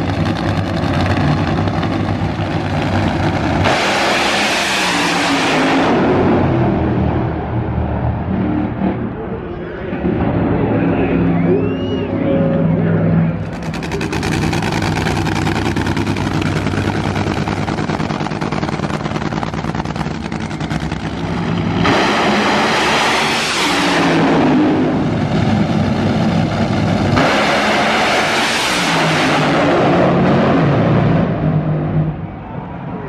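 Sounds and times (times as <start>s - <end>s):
drag racing engines rumbling: 0.0s - 33.0s
loud engine blasts: 0.0s - 33.0s.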